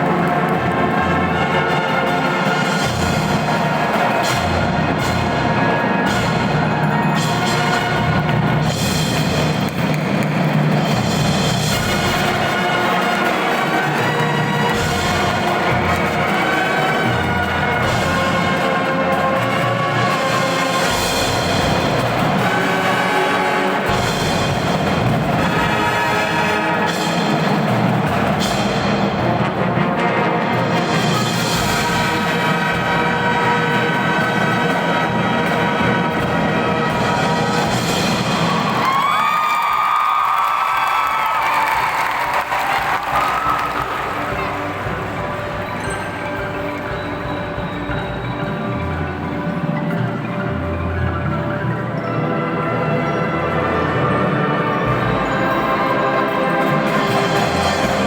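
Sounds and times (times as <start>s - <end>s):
drums and timpani: 0.0s - 58.0s
marching band playing: 0.0s - 58.0s.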